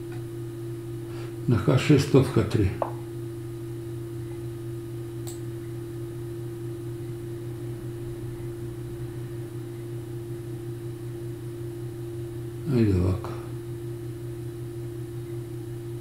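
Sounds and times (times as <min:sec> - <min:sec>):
electrical hum with high tone: 0:00.0 - 0:16.0.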